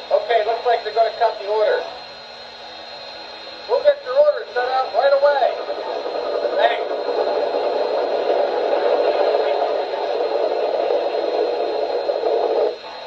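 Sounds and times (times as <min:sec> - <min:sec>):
radio static hiss: 0:00.0 - 0:02.0, 0:02.6 - 0:13.0.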